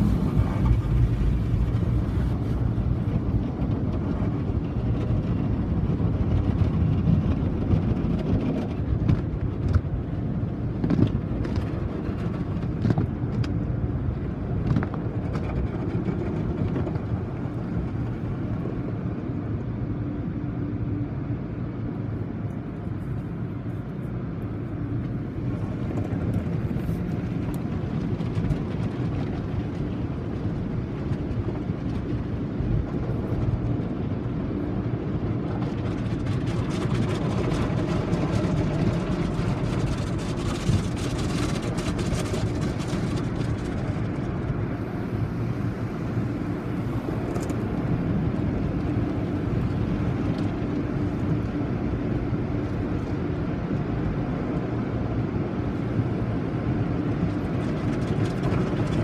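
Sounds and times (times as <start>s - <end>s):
car wash machinery rumble: 0.0s - 59.0s.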